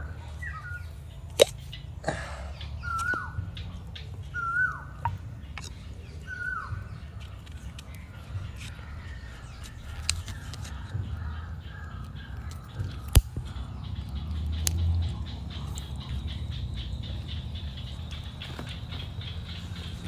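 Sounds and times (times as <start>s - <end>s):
bird call: 0.0s - 20.0s
low forest rumble: 0.0s - 20.0s.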